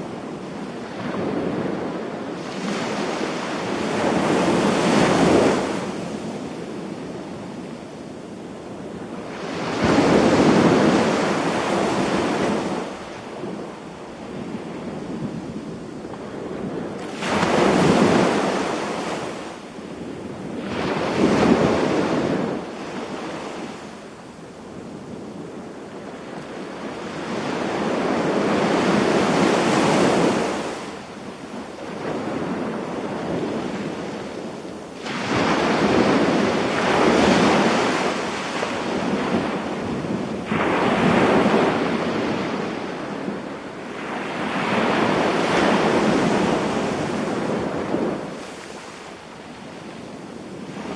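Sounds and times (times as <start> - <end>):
small waves breaking on beach: 0.0 - 50.9.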